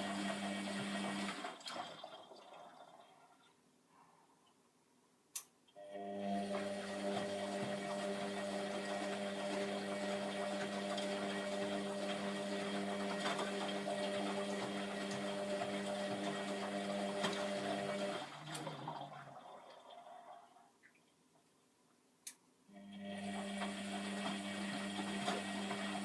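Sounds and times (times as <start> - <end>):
washing machine humming: 0.0 - 3.5, 5.8 - 20.6, 22.7 - 26.0.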